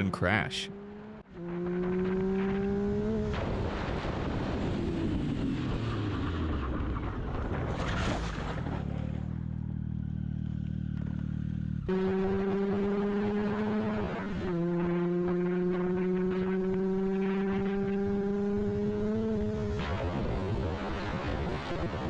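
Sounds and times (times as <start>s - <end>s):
motorcycle engine: 0.0s - 21.8s.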